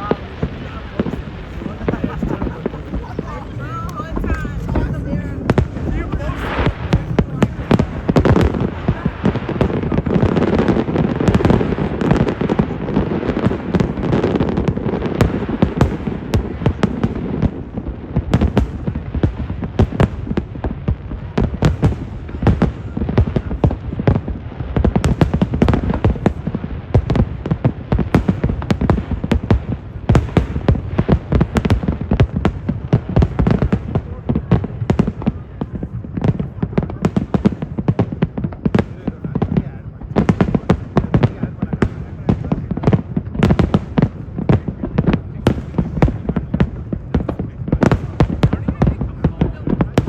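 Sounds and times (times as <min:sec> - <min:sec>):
fireworks bangs and crackles: 0:00.0 - 0:50.0
low rumble of fireworks: 0:00.0 - 0:50.0.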